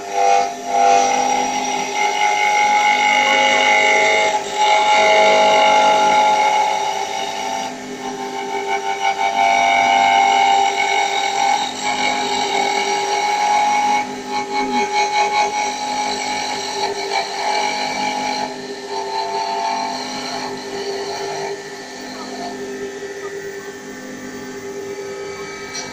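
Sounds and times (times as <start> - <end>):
lathe motors whining: 0.0 - 25.9.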